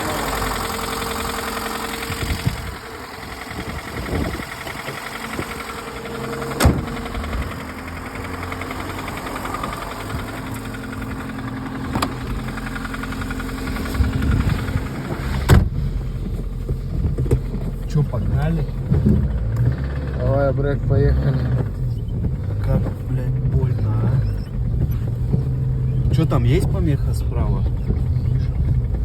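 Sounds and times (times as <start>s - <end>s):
car engine idling with knocking: 0.0s - 29.0s.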